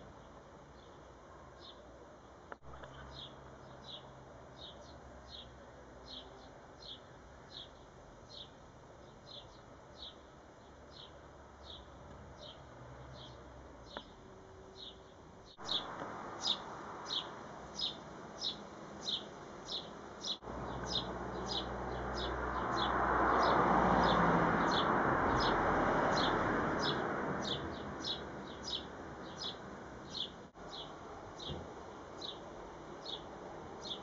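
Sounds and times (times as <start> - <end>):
small bird chirping: 2.7 - 14.2, 14.8 - 31.6, 32.2 - 34.0.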